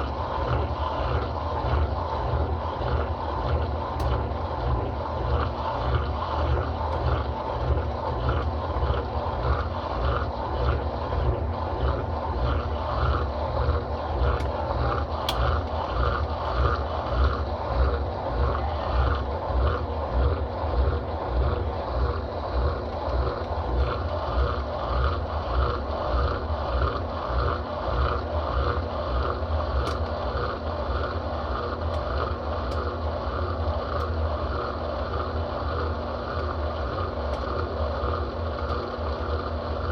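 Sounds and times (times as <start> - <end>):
washing machine churning: 0.0 - 39.9.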